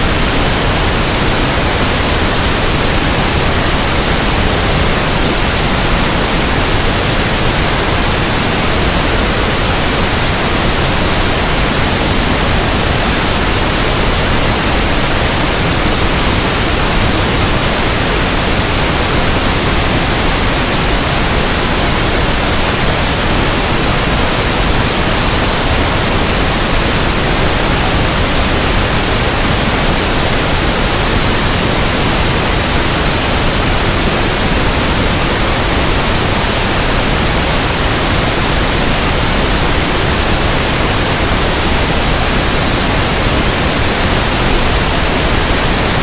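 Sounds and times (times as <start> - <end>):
pink noise hiss: 0.0 - 46.0.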